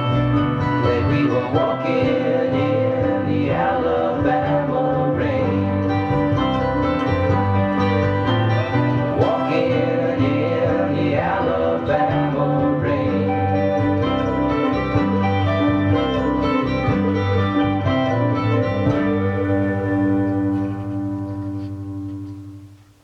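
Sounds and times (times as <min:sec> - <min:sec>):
sliding lead guitar line: 0:00.0 - 0:22.8
plucked acoustic guitars: 0:00.0 - 0:22.9.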